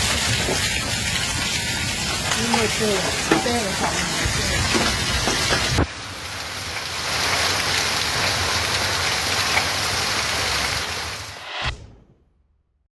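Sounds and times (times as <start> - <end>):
heavy rain pouring: 0.0 - 11.6.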